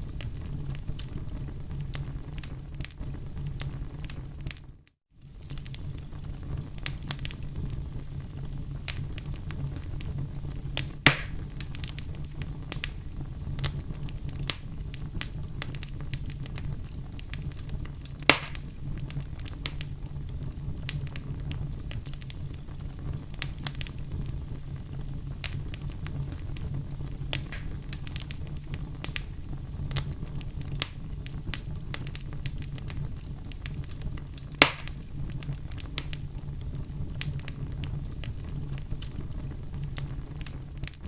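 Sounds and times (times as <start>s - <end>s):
fire popping: 0.0s - 41.0s
wood fire crackling: 0.0s - 41.0s.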